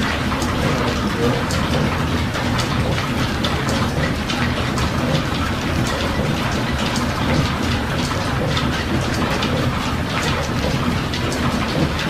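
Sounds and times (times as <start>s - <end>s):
machinery clattering: 0.0s - 12.0s.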